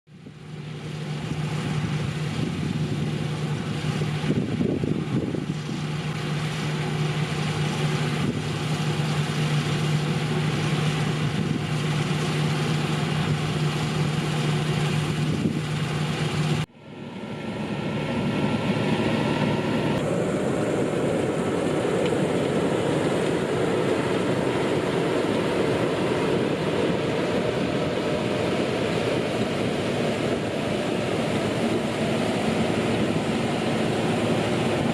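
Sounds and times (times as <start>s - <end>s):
combine harvester engine hum: 0.1s - 34.9s
rushing machine noise: 0.2s - 34.9s.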